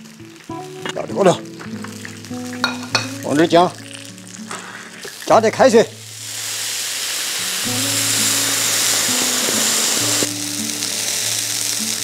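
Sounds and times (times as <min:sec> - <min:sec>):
background music: 0:00.0 - 0:12.0
sizzling hiss from a wok: 0:00.0 - 0:12.0.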